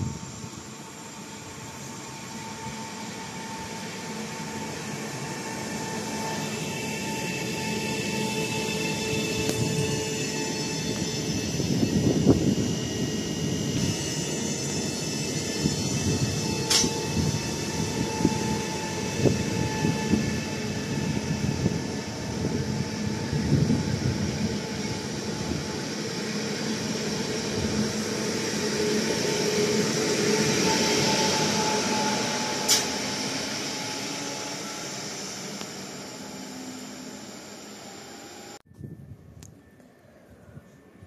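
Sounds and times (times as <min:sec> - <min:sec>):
wheels hissing on rail: 0:00.0 - 0:38.6.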